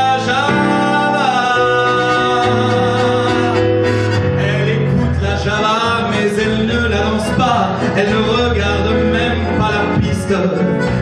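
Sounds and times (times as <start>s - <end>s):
instrumental accompaniment: 0.0s - 11.0s
man singing with vibrato: 0.0s - 11.0s.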